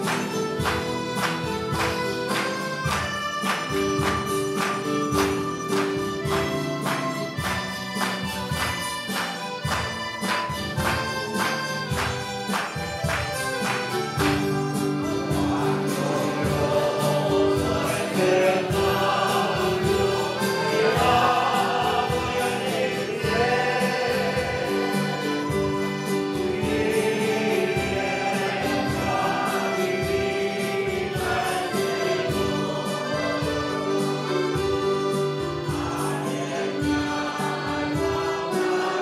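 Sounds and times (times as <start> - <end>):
church choir singing a hymn: 0.0 - 39.0
mandolins: 0.0 - 39.0
strummed acoustic guitar: 0.0 - 39.0.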